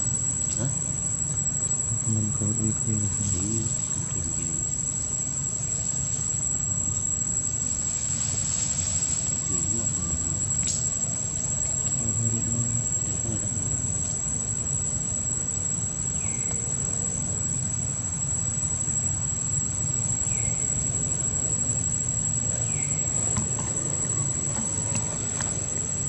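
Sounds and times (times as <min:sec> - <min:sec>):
high thin whine: 0:00.0 - 0:26.0.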